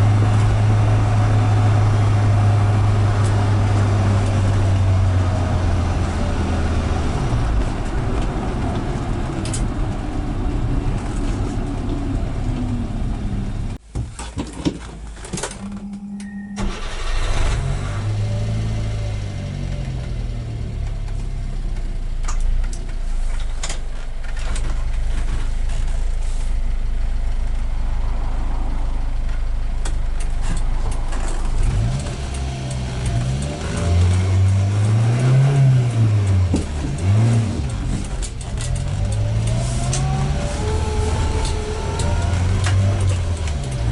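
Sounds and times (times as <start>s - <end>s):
van engine accelerating: 0.0s - 13.8s, 15.6s - 43.9s.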